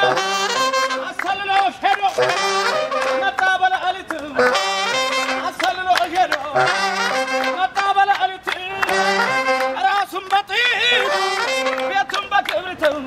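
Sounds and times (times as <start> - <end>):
saxophone dance melody: 0.0 - 12.4.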